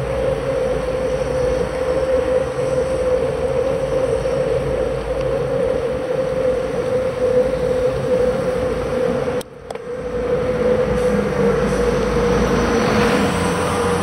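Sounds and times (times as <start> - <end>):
bus engine rumble: 0.0 - 14.0
steady hum: 0.0 - 14.0
wind and road rumble: 0.0 - 14.0.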